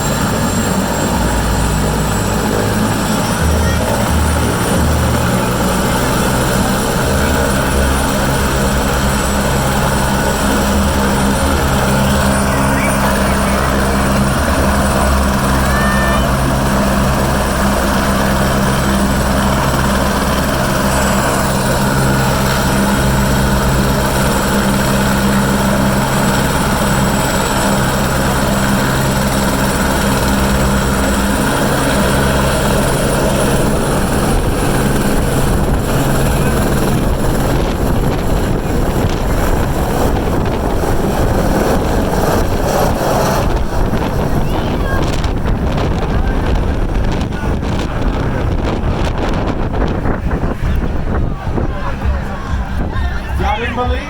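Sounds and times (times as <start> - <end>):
helicopter turbine and rotor: 0.0 - 54.0
wind buffeting microphone: 0.0 - 54.0.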